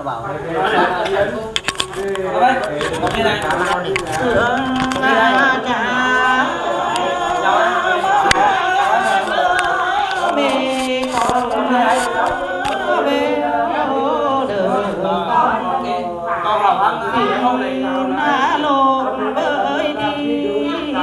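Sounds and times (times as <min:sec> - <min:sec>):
voices singing without instruments: 0:00.0 - 0:21.0.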